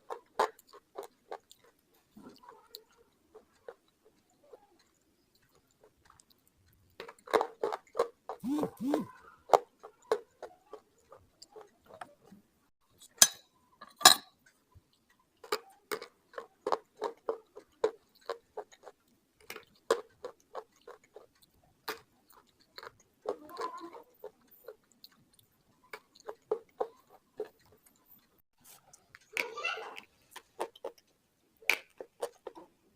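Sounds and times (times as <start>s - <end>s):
pencils being chewed crunching: 0.0s - 12.4s, 14.4s - 32.9s.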